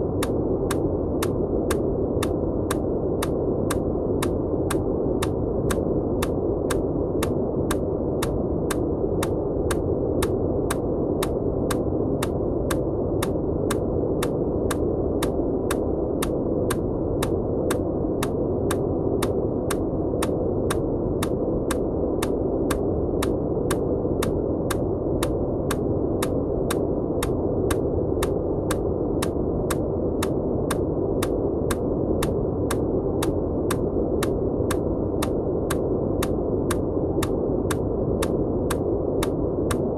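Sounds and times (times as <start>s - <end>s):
muffled white noise: 0.0s - 39.9s.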